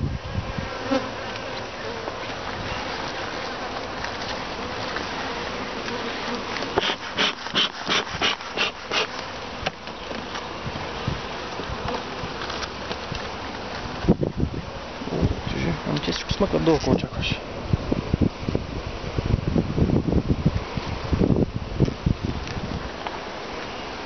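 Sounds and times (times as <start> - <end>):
honeybees humming: 0.0 - 19.5.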